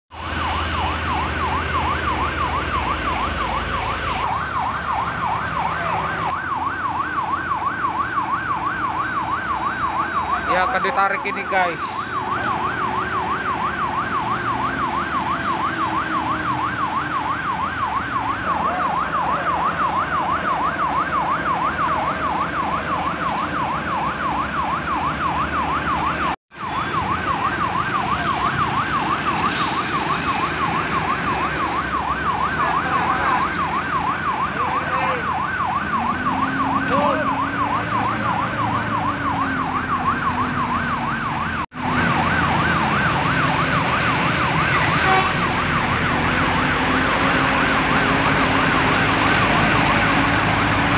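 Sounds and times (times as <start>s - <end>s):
electronic warning siren warbling: 0.1s - 50.9s
truck engines running: 0.1s - 50.9s.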